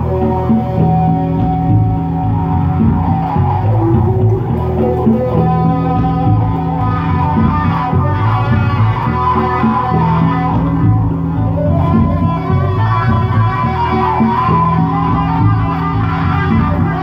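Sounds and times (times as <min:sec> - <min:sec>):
electric guitar riff: 0:00.0 - 0:17.0.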